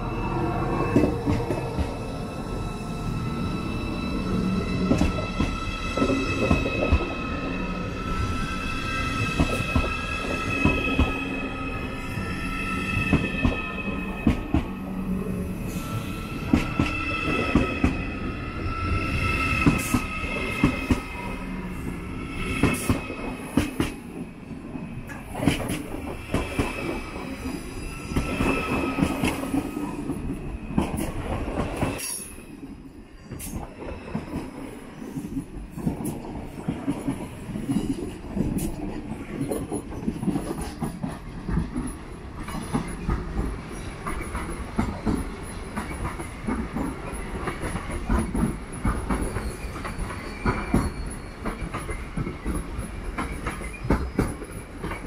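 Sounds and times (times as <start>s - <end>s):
train wheels squealing: 0.0s - 35.4s, 40.0s - 55.0s.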